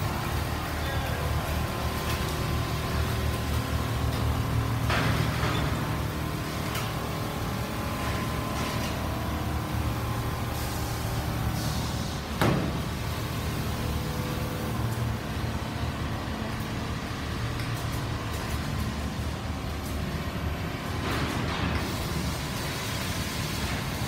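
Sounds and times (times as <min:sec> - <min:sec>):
quilting machines humming: 0:00.0 - 0:24.0.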